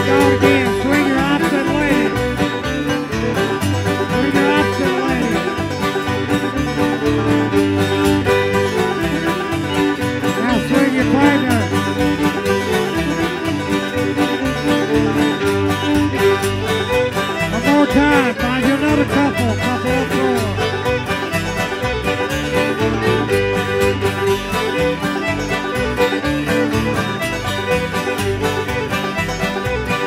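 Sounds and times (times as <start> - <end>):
banjo: 0.0 - 30.0
fiddle: 0.0 - 30.0
guitar: 0.0 - 30.0.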